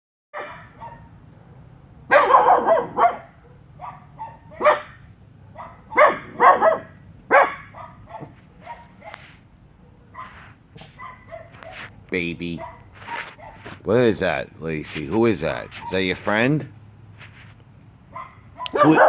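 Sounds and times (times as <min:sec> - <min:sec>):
dogs barking: 0:00.3 - 0:13.8, 0:15.5 - 0:16.4, 0:18.1 - 0:19.0.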